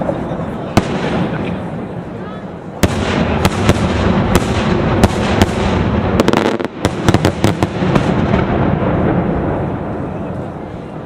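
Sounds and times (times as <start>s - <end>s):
continuous rumble: 0.0s - 11.0s.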